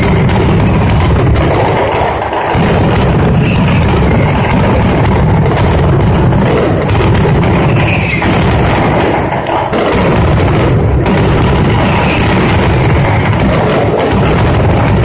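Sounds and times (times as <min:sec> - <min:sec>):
firecrackers barrage: 0:00.0 - 0:15.0.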